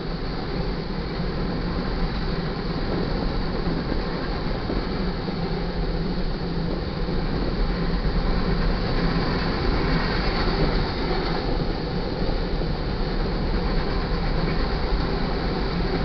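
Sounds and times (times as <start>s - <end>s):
train wheels rumbling and rattling: 0.0s - 16.0s.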